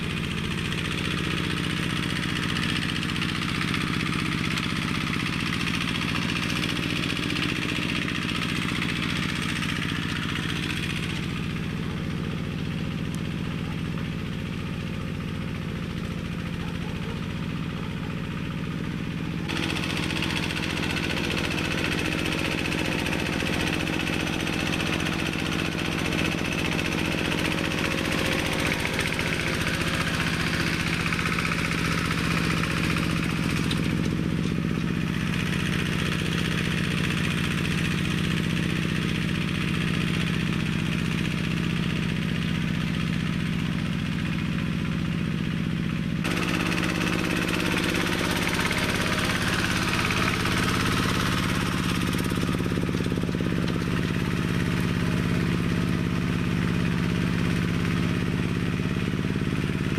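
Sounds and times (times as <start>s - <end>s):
small tractor engine running: 0.0s - 59.9s.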